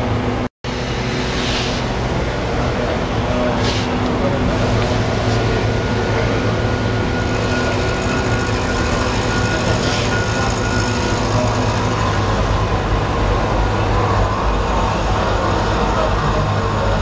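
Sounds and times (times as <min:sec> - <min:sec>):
machine mechanical hum: 0:00.0 - 0:17.0.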